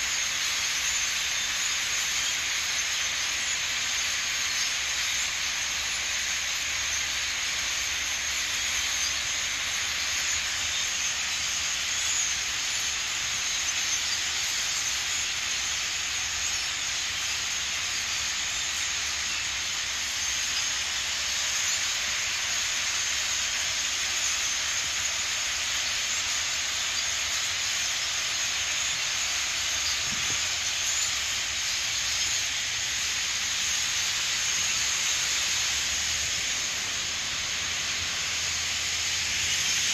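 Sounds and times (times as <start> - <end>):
flock of starlings chattering: 0.0 - 39.9.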